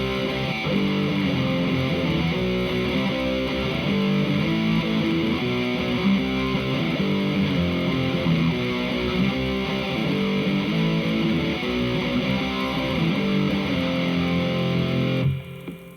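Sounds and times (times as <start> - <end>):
overdriven electric guitar: 0.0 - 15.9.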